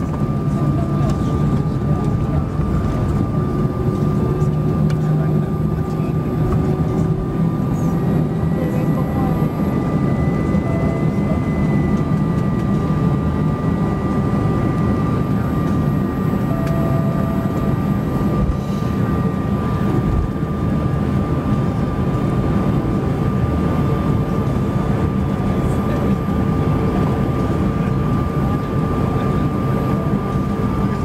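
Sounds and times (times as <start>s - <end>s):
aircraft cabin rumble: 0.0s - 31.0s
jet engine whine: 0.0s - 31.0s.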